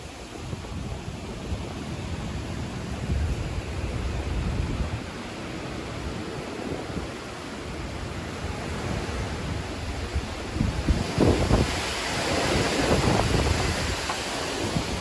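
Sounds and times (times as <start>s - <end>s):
strong wind rushing: 0.0s - 15.0s.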